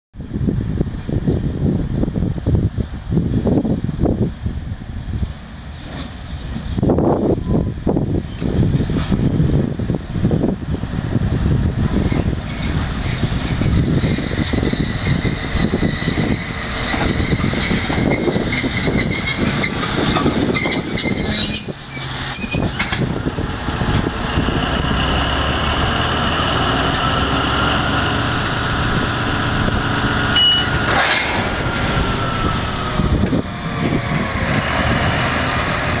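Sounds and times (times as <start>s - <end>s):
diesel locomotive engine running: 0.2s - 36.0s.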